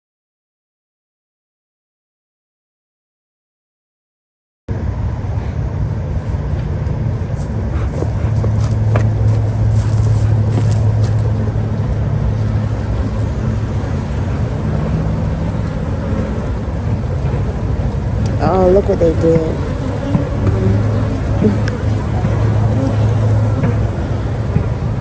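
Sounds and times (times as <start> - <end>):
vehicle engine and road noise: 4.7 - 25.0.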